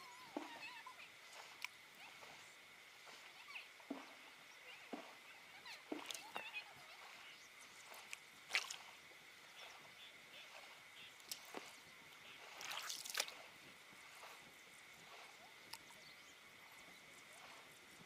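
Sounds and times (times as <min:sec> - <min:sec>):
faint steady high hum: 0:00.0 - 0:18.0
small water splashes and drips: 0:00.0 - 0:18.0.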